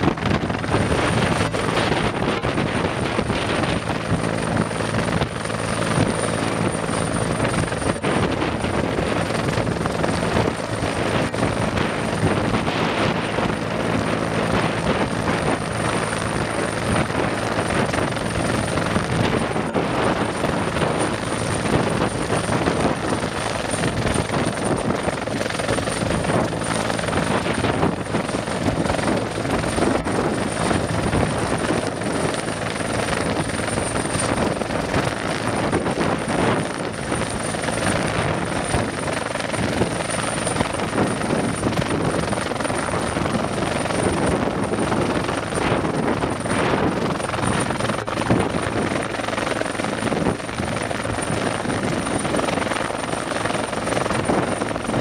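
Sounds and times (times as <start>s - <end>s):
helicopter rotor beating: 0.0s - 55.0s.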